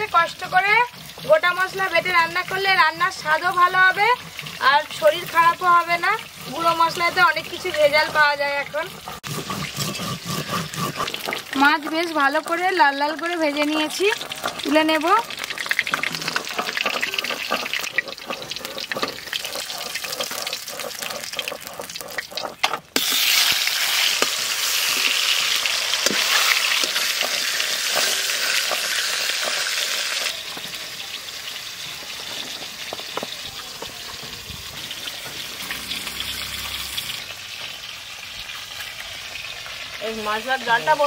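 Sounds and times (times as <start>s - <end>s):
fish sizzling in hot oil: 0.0s - 41.0s.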